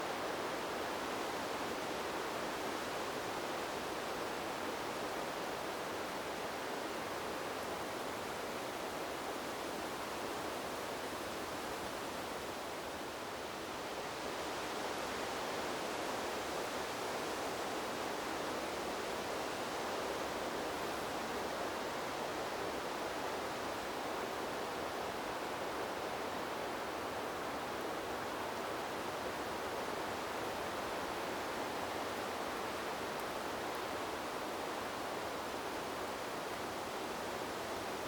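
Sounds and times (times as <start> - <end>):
wind through bamboo: 0.0 - 38.0.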